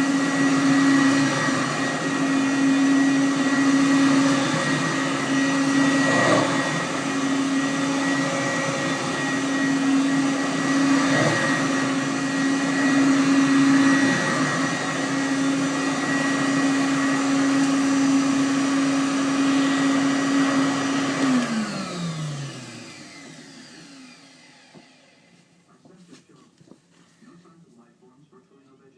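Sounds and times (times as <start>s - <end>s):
vacuum cleaner running: 0.0s - 27.6s.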